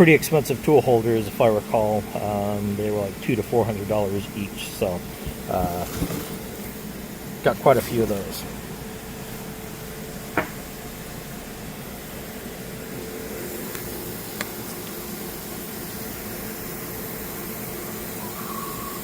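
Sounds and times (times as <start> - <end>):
mechanical fan hum: 0.0 - 19.0.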